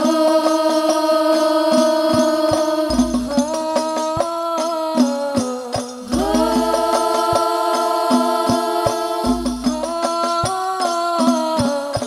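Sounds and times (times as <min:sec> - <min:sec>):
frame drums beating: 0:00.0 - 0:12.0
women singing devotional song: 0:00.0 - 0:12.0.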